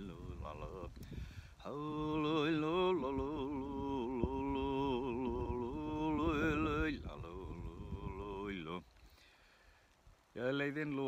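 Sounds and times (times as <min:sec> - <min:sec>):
man singing unaccompanied: 0:00.0 - 0:08.9, 0:10.3 - 0:11.0.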